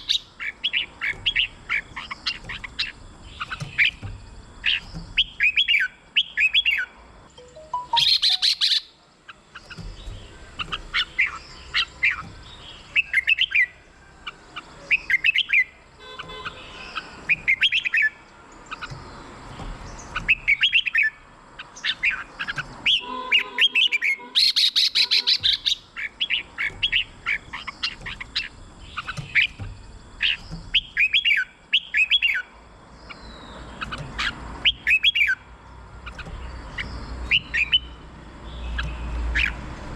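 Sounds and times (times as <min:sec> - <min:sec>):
bulbul chirping song: 0:00.0 - 0:39.8.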